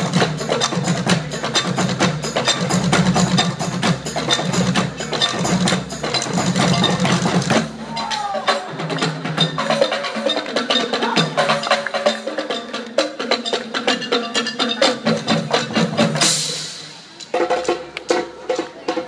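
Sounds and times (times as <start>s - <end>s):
rapid knocking percussion: 0.0s - 19.0s.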